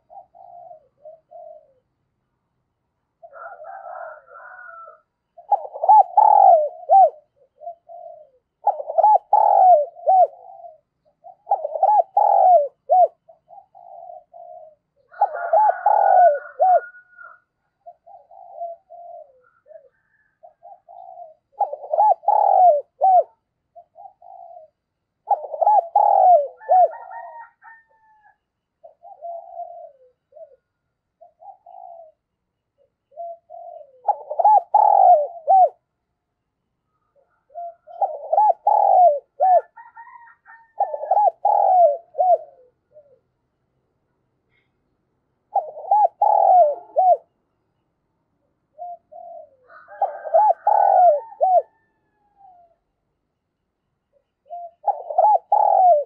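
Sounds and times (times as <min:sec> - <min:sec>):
dove cooing: 0:00.0 - 0:02.2, 0:03.2 - 0:35.9, 0:36.9 - 0:43.4, 0:45.4 - 0:47.4, 0:48.7 - 0:53.0, 0:54.1 - 0:56.0.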